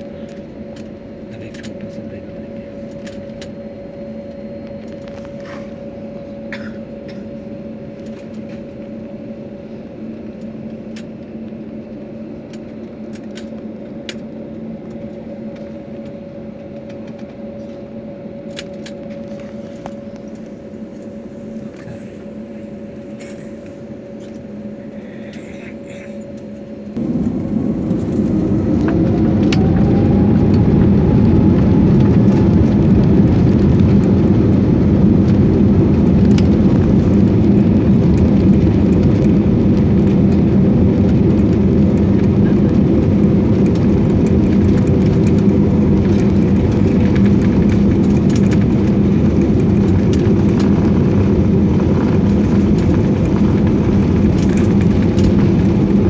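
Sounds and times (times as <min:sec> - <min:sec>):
jet engines heard from cabin: 0:00.0 - 0:56.0.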